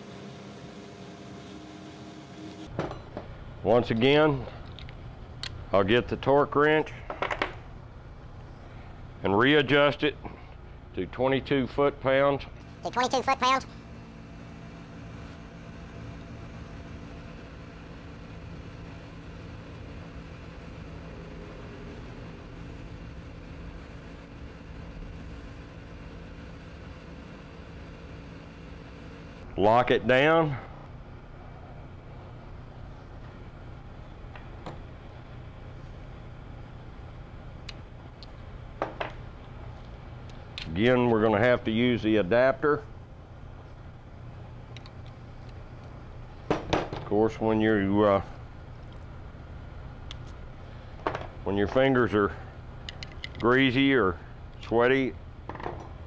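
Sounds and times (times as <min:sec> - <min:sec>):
background machinery hum: 0:00.0 - 0:56.0.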